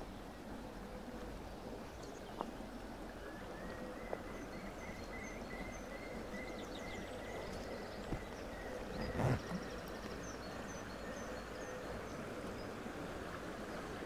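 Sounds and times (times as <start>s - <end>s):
stony stream running: 0.0s - 14.0s.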